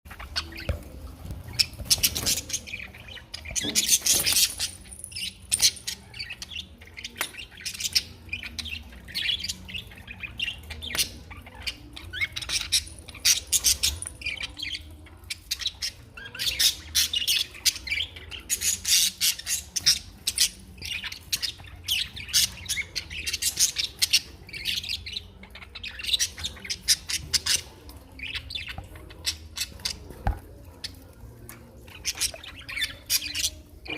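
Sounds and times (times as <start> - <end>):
birds chirping and squawking: 0.1 - 33.9.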